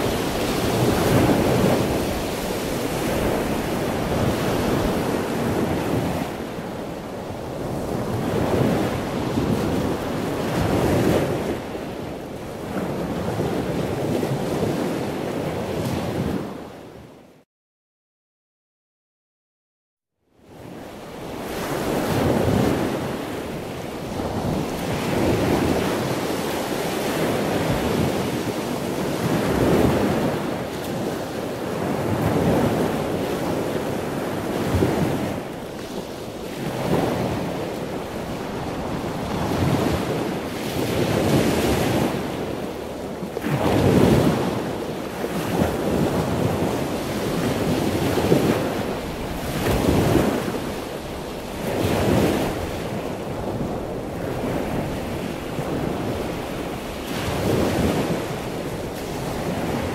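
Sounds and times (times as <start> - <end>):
sea waves washing on shore: 0.0 - 17.2, 20.4 - 59.9.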